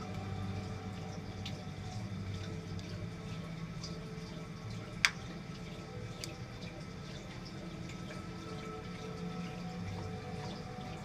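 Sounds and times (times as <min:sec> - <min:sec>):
aquarium hum and water: 0:00.0 - 0:11.0.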